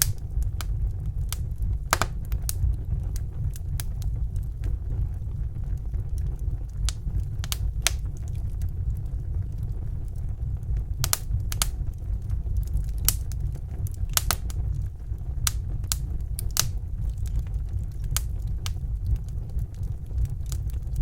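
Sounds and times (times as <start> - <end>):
sharp pops of burning wood: 0.0 - 4.9, 6.0 - 9.5, 10.8 - 21.0
wood fire crackling: 0.0 - 21.0.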